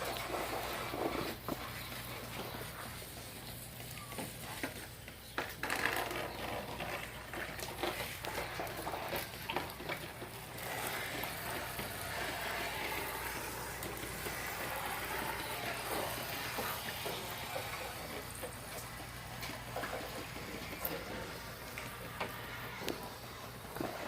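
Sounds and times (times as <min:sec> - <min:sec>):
water spraying in a stream: 0:00.0 - 0:03.9, 0:07.2 - 0:24.0.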